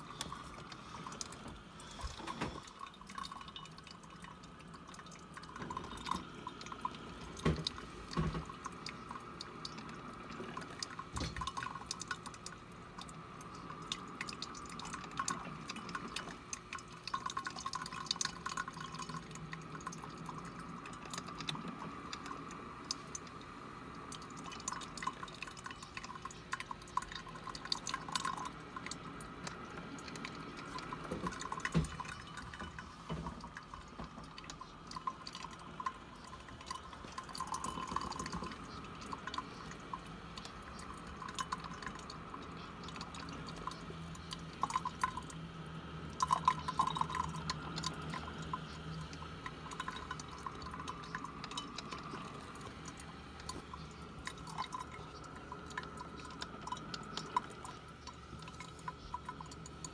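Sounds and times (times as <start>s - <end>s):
coffee dripping into carafe: 0.0s - 59.9s.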